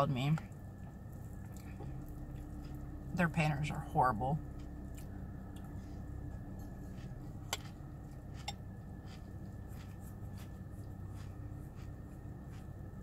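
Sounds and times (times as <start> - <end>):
chewing crunchy cereal: 0.2 - 3.1, 4.4 - 13.0.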